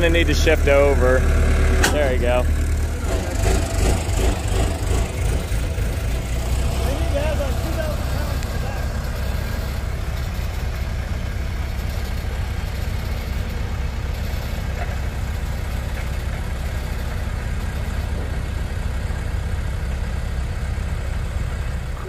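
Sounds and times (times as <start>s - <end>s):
loader engine idling: 0.0s - 22.0s.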